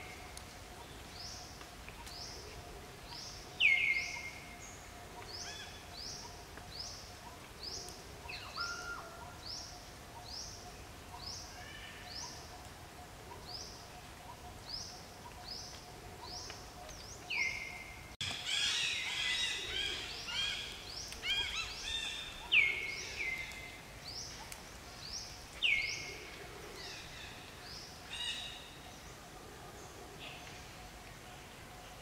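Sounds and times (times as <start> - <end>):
chorus of bird chirps: 0.8 - 29.2.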